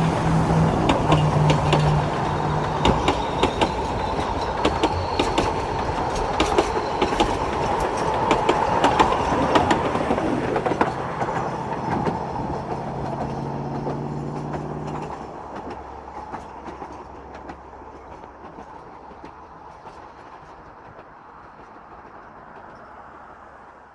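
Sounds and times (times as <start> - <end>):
train wheels clicking over rail joints: 0.0 - 23.1.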